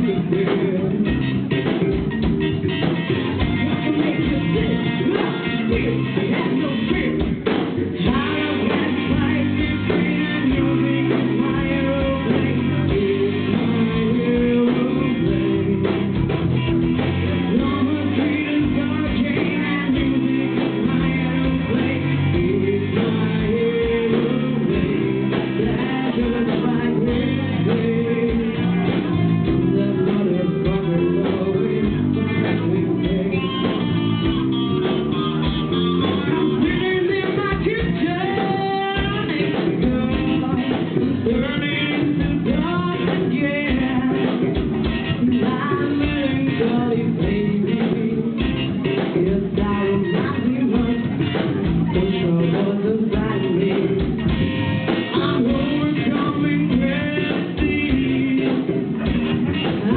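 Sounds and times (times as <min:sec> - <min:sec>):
bass guitar: 0:00.0 - 0:59.9
drums: 0:00.0 - 0:59.9
electric guitar: 0:00.0 - 0:59.9
keyboard: 0:00.0 - 0:59.9
woman singing lead vocals: 0:02.8 - 0:16.3, 0:16.9 - 0:59.9.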